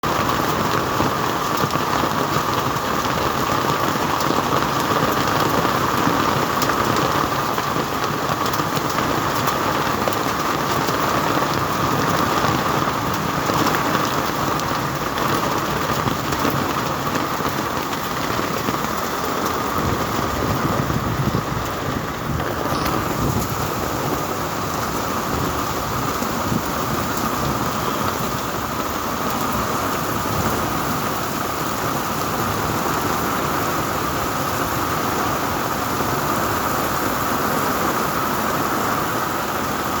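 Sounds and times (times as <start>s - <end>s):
heavy rain on hard surfaces: 0.0s - 40.0s.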